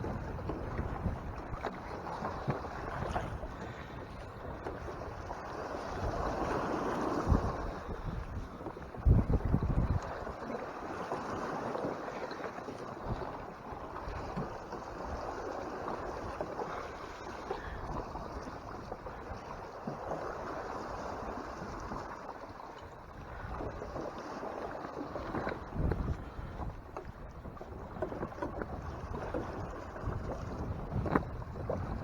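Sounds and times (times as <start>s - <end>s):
wind: 0.0s - 32.0s.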